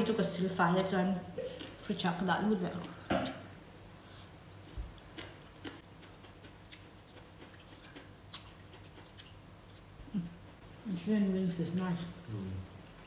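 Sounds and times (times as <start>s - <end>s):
soft chewing: 0.8s - 13.0s.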